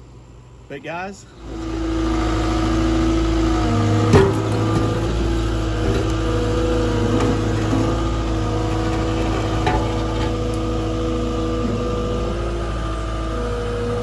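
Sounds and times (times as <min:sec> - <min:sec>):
engine droning steadily: 0:00.0 - 0:14.0.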